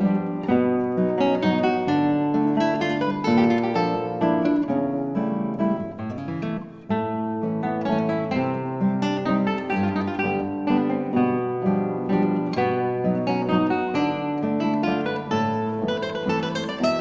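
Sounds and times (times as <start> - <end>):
classical guitars playing: 0.0 - 17.0.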